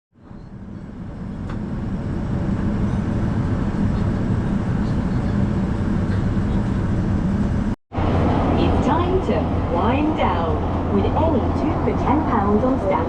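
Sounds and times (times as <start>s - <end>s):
airliner cabin drone: 0.2s - 13.0s.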